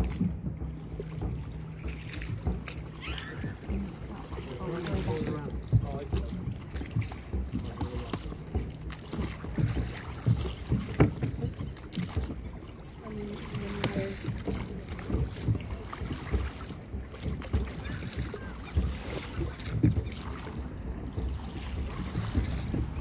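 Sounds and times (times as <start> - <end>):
oars knocking in wooden ports: 0.0 - 23.0
oars sweeping through water: 0.0 - 23.0
wind rumbling on microphone: 0.0 - 23.0.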